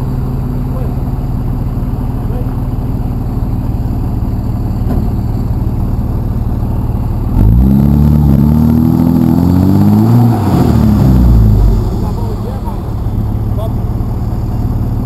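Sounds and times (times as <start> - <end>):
pickup truck engine revving: 2.0 - 15.0.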